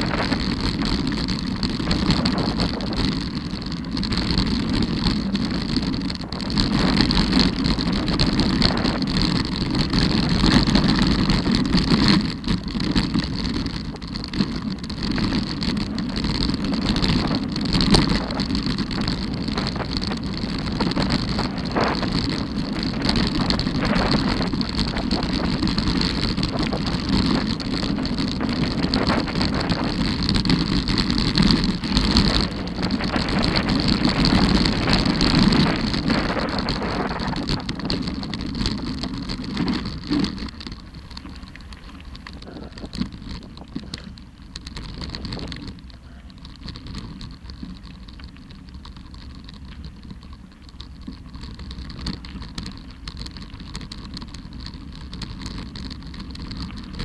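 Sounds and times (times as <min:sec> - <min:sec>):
bike rattling and knocking: 0:00.0 - 0:57.0
bike tyres rumbling over gravel: 0:00.0 - 0:57.0
wind buffeting microphone: 0:00.0 - 0:57.0.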